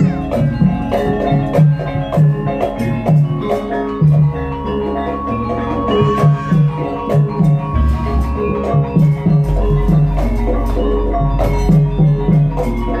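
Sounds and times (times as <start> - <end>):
drum strokes: 0.0 - 4.3, 6.0 - 13.0
metallophones playing a melody: 0.0 - 13.0.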